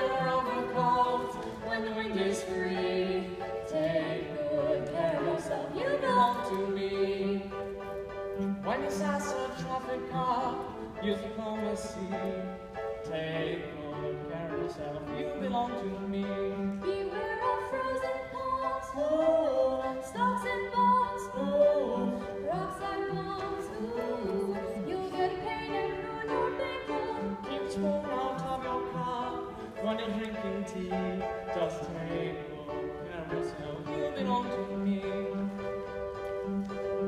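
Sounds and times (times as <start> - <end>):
person singing with vibrato: 0.0 - 7.8, 8.4 - 37.0
instrumental accompaniment: 0.0 - 37.0.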